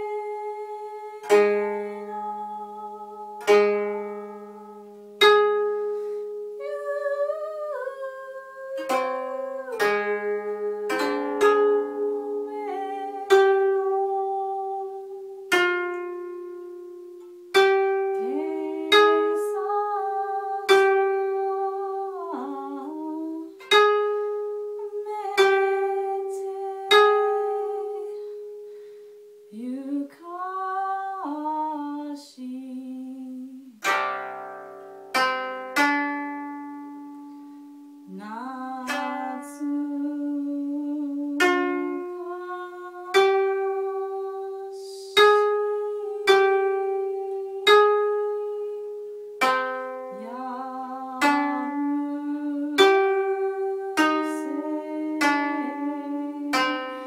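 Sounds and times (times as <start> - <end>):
woman singing: 0.0 - 5.0, 6.6 - 16.0, 17.6 - 24.2, 24.8 - 28.3, 29.5 - 34.0, 38.0 - 49.0, 50.0 - 57.0
koto plucked notes: 0.0 - 32.1, 32.8 - 57.0.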